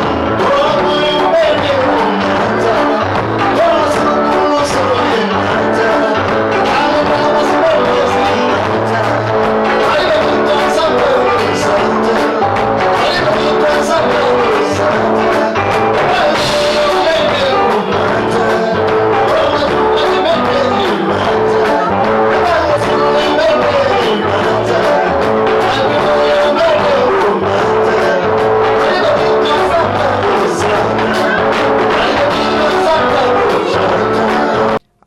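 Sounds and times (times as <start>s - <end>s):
live band playing: 0.0s - 35.0s
person singing: 0.0s - 35.0s.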